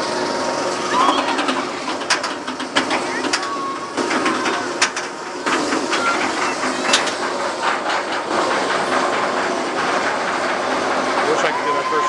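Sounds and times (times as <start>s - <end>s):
roller coaster train rushing: 0.0s - 12.0s.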